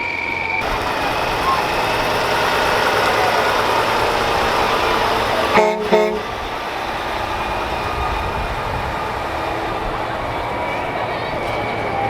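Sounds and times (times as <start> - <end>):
din of parade vehicles: 0.0 - 12.0
vehicle horn honking: 0.6 - 11.6.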